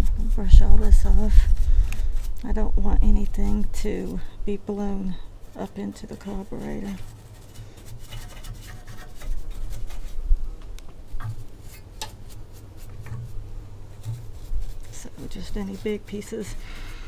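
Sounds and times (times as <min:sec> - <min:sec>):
brush scrubbing engine: 0:00.0 - 0:17.0.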